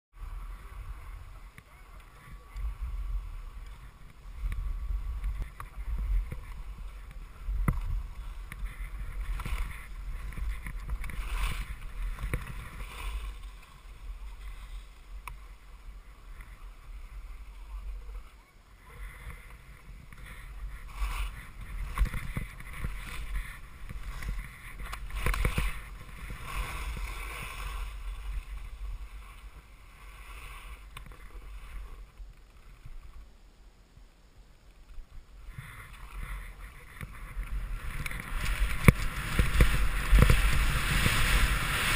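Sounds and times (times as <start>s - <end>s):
wind rumble on microphone: 0.1s - 33.4s, 34.8s - 41.9s
skis scraping over snow: 0.2s - 33.2s, 35.3s - 41.9s.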